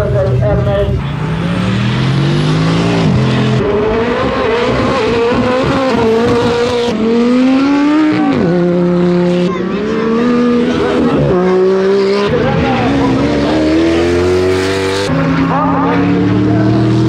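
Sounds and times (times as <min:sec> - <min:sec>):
car engines accelerating hard: 0:00.0 - 0:17.0.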